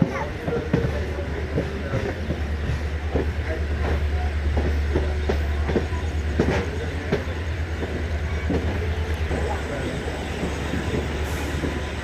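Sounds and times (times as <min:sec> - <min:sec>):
train low rumble: 0:00.0 - 0:12.0
wheels clacking over rail joints: 0:00.0 - 0:12.0.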